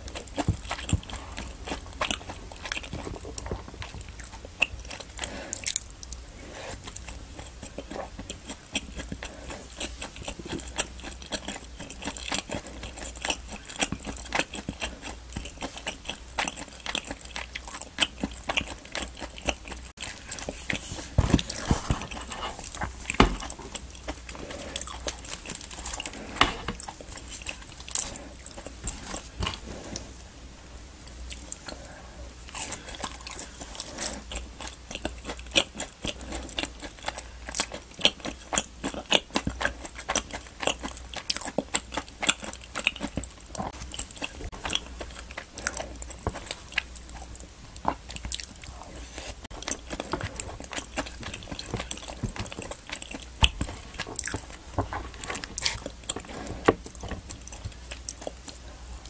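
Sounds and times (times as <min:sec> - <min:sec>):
person chewing: 0:00.0 - 0:30.3, 0:31.1 - 0:59.0.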